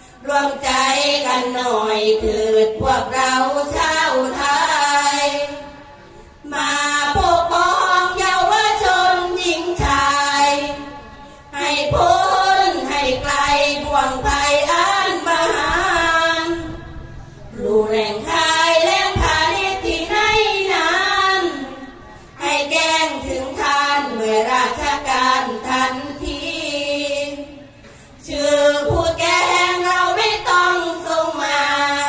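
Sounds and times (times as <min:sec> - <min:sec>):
women chanting together: 0:00.0 - 0:32.0.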